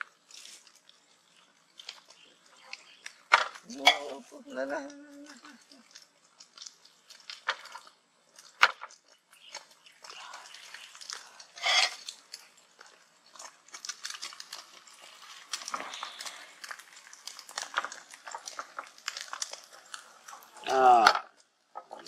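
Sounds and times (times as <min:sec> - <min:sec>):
egg frying in a pan: 0:00.0 - 0:22.0.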